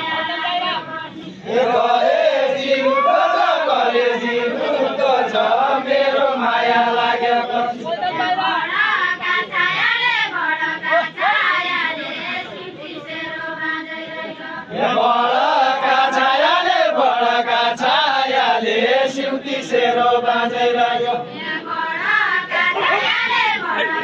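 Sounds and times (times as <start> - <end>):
men singing unaccompanied: 0.0 - 24.0.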